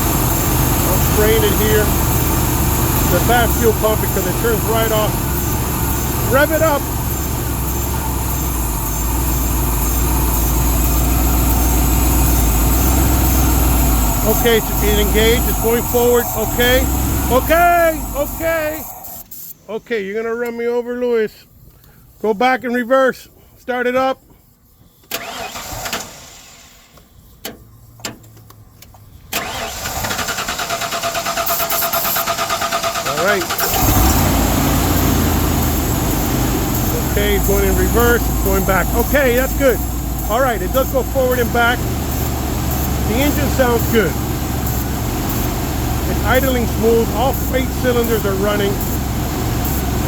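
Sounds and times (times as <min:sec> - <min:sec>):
truck engine running: 0:00.0 - 0:19.2, 0:27.9 - 0:50.0.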